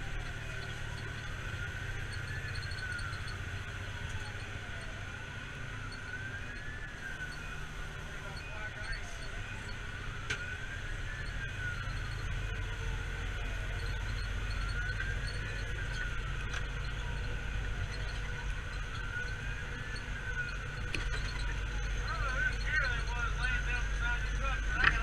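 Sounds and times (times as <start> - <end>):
fire engine siren wailing: 0.0 - 25.0
truck engine low rumble: 0.0 - 25.0.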